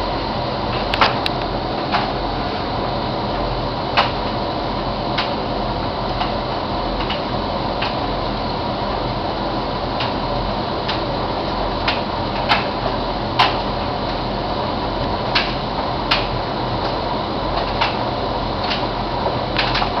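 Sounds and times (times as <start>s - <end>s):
washing machine drum whirring: 0.0s - 20.0s.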